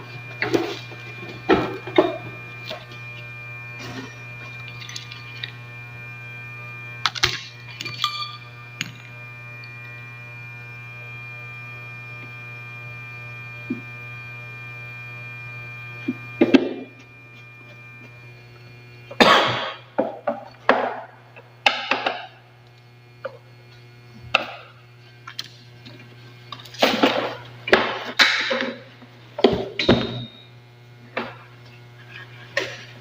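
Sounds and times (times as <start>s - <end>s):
hum of held tones: 0.0s - 33.0s.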